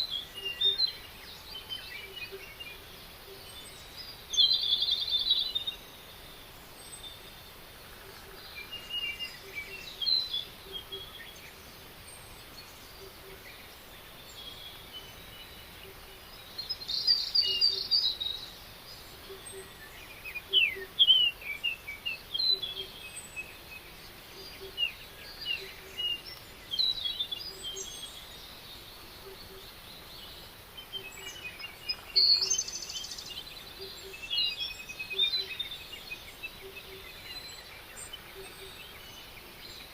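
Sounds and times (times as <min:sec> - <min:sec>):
songbirds chirping and trilling: 0:00.0 - 0:39.9
steady outdoor hiss: 0:00.0 - 0:39.9.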